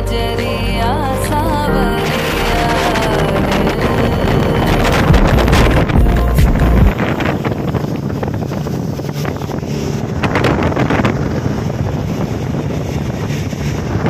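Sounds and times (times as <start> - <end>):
outboard motor droning: 0.0 - 14.0
wind buffeting microphone: 0.2 - 14.0
rush of boat wake: 1.5 - 14.0.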